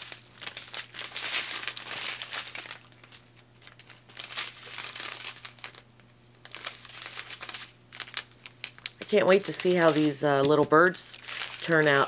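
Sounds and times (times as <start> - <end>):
thin plastic pouches crinkling: 0.0 - 12.0.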